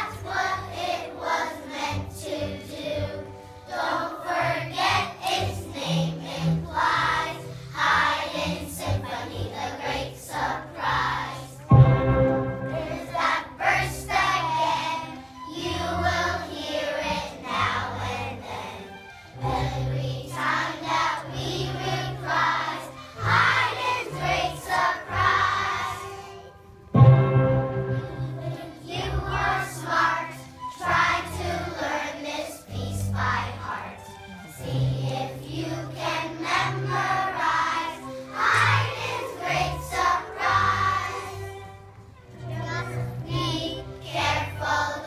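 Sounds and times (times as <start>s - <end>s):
children's choir singing: 0.0s - 45.0s
instrumental accompaniment: 0.0s - 45.0s.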